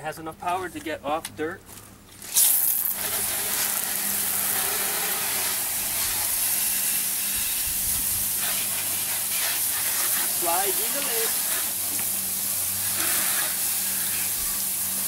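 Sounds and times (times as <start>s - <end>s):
water spraying from nozzles: 2.2s - 15.0s.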